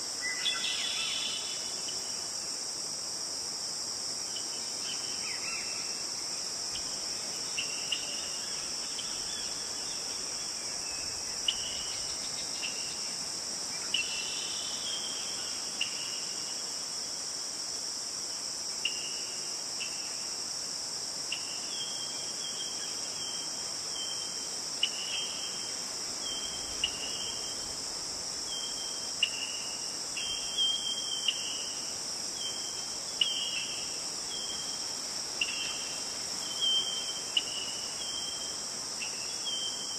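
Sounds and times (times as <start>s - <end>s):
chorus of crickets: 0.0s - 39.9s.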